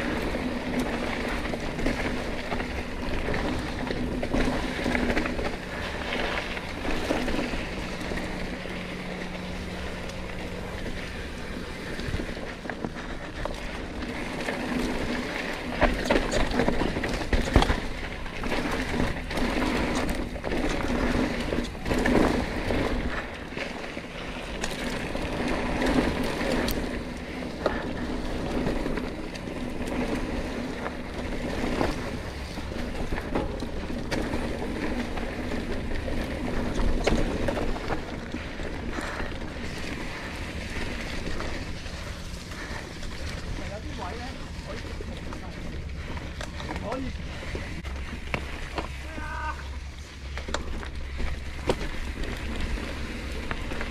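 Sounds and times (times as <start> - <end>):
bike rattling: 0.0 - 53.9
tyre and wind noise: 0.0 - 53.9.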